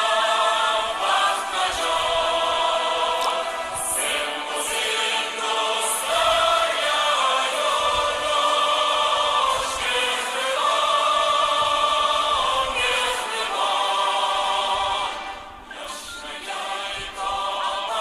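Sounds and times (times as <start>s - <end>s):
choir singing held notes: 0.0s - 18.0s.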